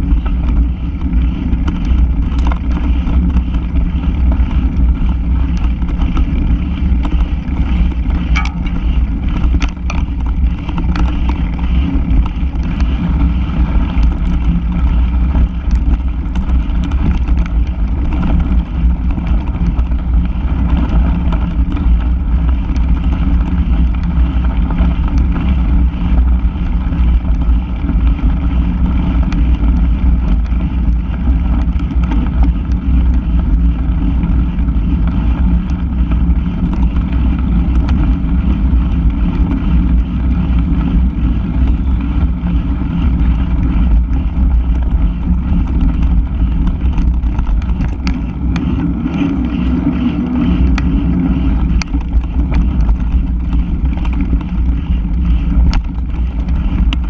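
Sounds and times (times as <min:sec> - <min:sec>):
bike rattling: 0:00.0 - 0:57.0
bike tyres on gravel: 0:00.0 - 0:57.0
wind buffeting microphone: 0:00.0 - 0:57.0.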